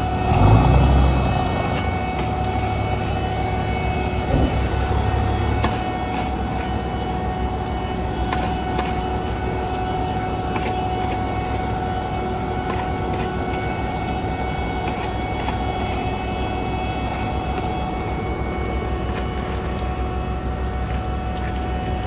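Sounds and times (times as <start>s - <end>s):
constant machine whine: 0.0s - 22.0s
paving machinery engine rumble: 0.0s - 22.0s.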